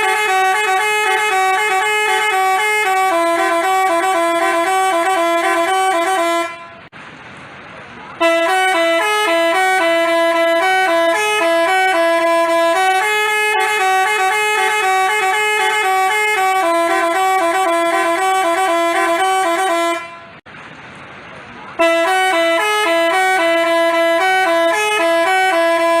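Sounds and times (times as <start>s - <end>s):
musical bus horn melody: 0.0s - 6.9s, 8.2s - 20.5s, 21.8s - 26.0s.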